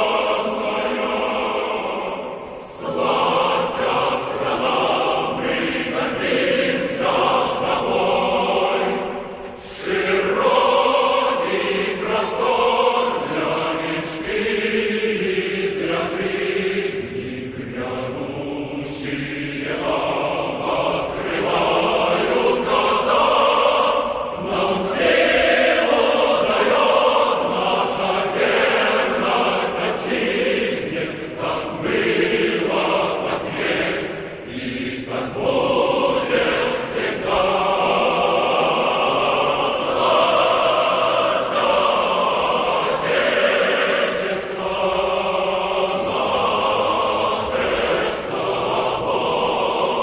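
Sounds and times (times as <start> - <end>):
choir chanting: 0.0 - 50.0.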